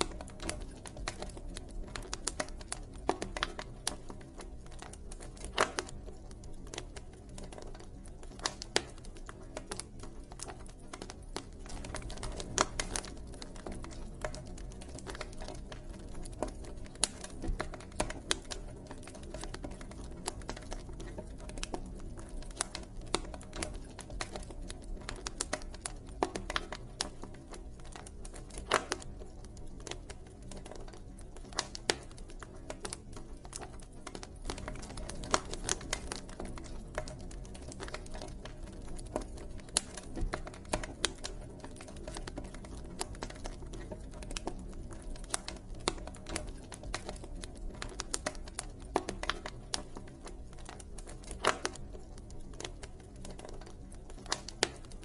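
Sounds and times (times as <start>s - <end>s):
low rumble of burning: 0.0s - 55.0s
wood fire pops and snaps: 0.0s - 55.0s.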